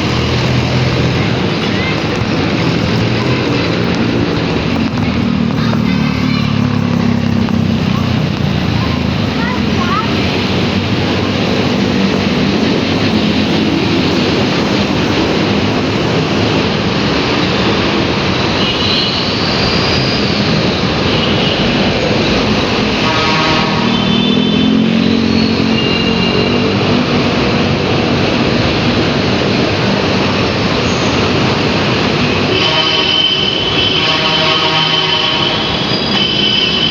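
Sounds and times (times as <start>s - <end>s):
road and wind noise: 0.0s - 36.9s.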